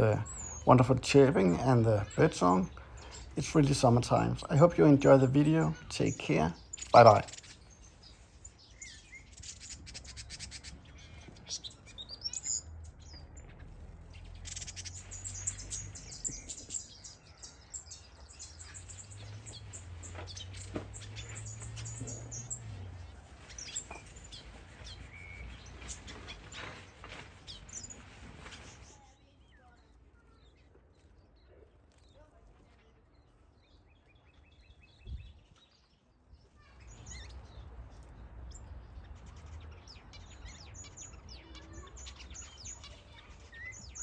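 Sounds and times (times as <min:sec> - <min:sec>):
small birds chirping and singing: 0:00.0 - 0:44.0.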